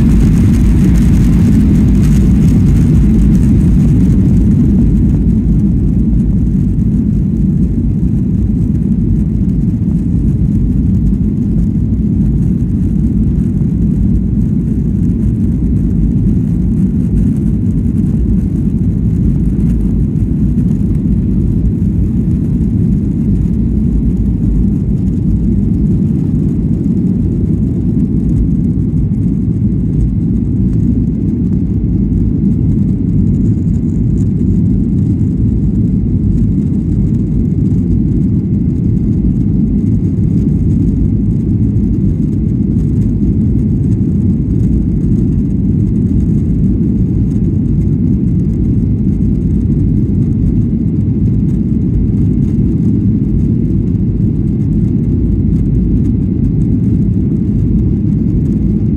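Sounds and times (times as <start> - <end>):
jet engines rumbling: 0.0 - 58.9
wheels running on runway: 0.0 - 58.9.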